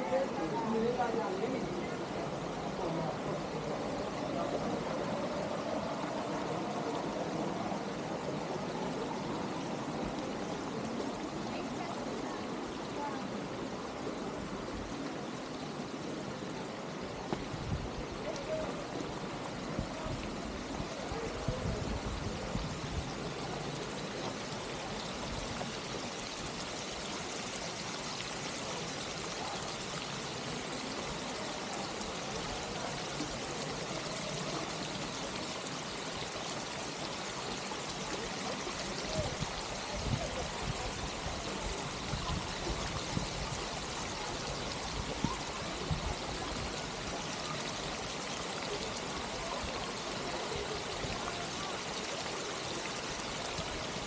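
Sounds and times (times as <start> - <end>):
fountain water splashing: 0.0 - 54.0.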